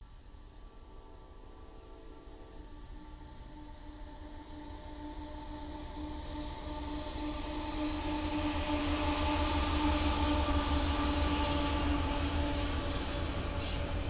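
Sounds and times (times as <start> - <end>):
diesel locomotive engine drone: 0.0 - 14.0
train wheel squeal: 0.7 - 14.0.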